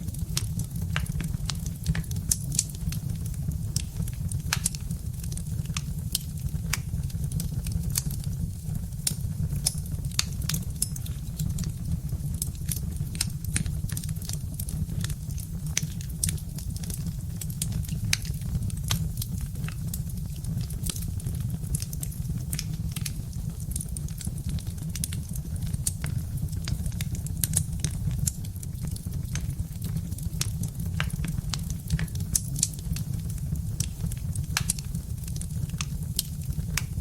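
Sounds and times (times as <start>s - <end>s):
fire low rumble: 0.0s - 37.0s
log fire crackling: 0.0s - 37.0s.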